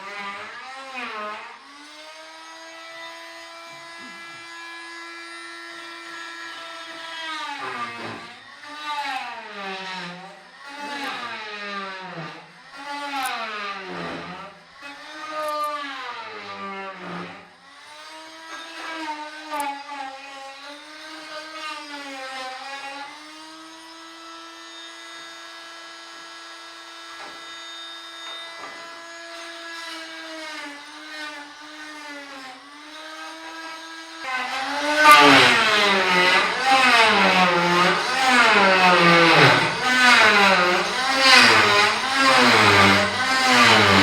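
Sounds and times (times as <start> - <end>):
oscillating multi-tool buzzing: 0.0 - 24.5, 28.3 - 44.0.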